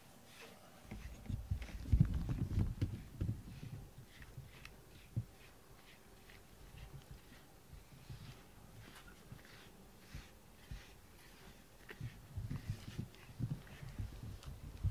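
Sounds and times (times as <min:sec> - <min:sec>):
brush rubbing cat fur: 0:00.1 - 0:14.9.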